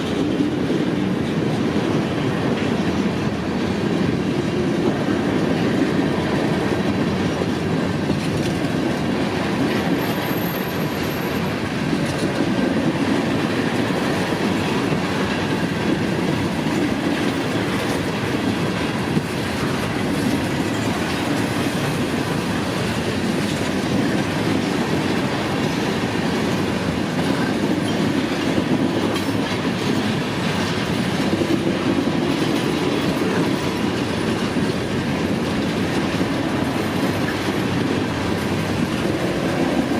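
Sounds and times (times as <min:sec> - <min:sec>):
freight train wheels rumbling on rail: 0:00.0 - 0:39.9.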